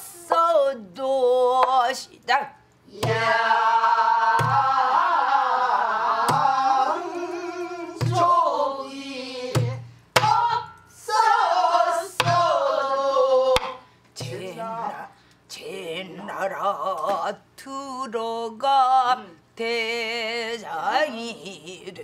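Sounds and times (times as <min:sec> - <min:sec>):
person singing melismatic vowels: 0:02.9 - 0:22.0.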